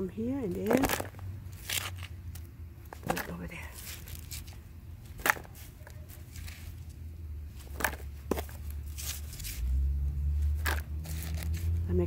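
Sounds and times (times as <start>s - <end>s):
soil being scooped: 0.6s - 11.8s.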